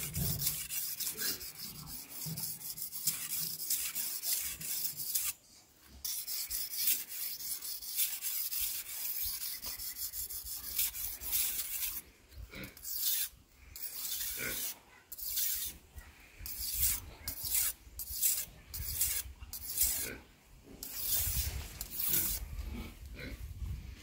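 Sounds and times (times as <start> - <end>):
knife scraping on whetstone: 0.0 - 15.8, 16.4 - 20.2, 20.8 - 22.5.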